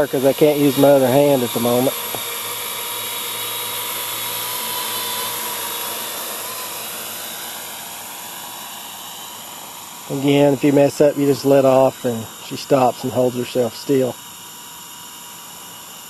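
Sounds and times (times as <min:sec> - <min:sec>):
drone propellers whirring: 0:00.0 - 0:16.0
thin high whine: 0:00.0 - 0:16.0.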